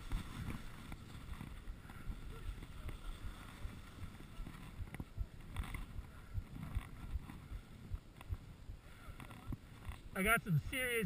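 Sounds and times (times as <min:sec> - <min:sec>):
wind buffeting microphone: 0:00.0 - 0:10.2
skis scraping over snow: 0:00.0 - 0:11.0.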